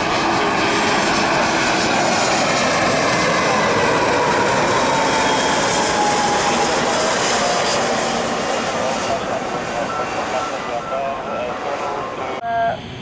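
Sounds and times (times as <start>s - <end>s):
airliner passing overhead: 0.0s - 13.0s.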